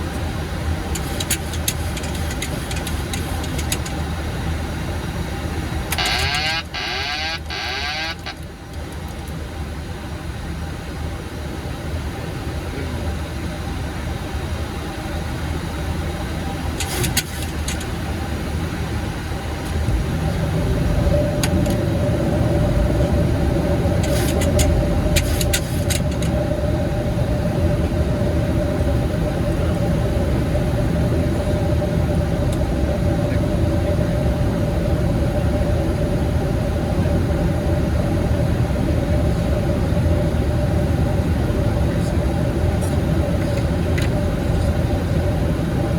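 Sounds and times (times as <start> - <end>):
steady hum: 0.0 - 13.1, 14.5 - 45.9
airflow and engines rumbling: 0.0 - 45.9.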